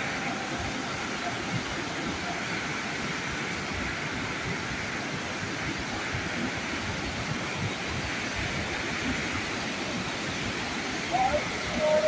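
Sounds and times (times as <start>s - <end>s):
river white water: 0.0s - 12.0s
waterfall rushing: 0.0s - 12.0s.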